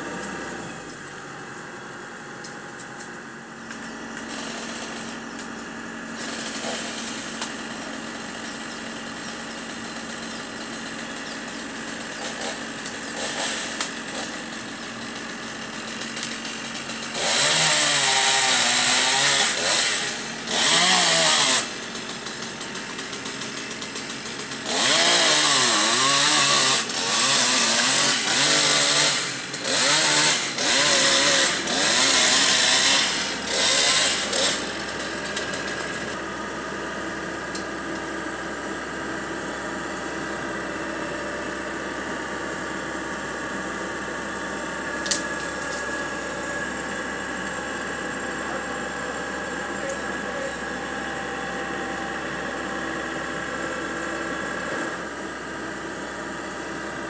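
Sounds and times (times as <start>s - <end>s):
chainsaw cutting wood: 0.0s - 1.0s, 2.4s - 57.0s
chainsaw idling and revving: 0.0s - 57.0s.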